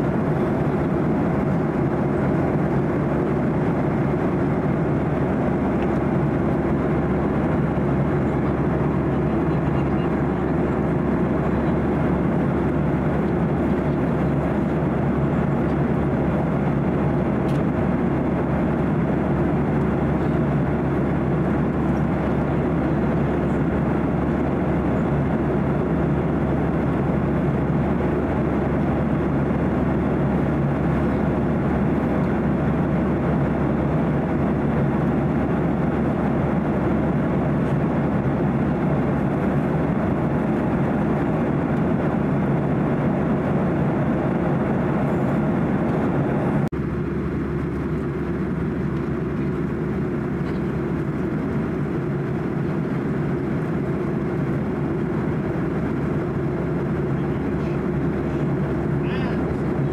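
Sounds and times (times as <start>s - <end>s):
airflow rushing over fuselage: 0.0s - 59.9s
jet engines droning: 0.0s - 59.9s.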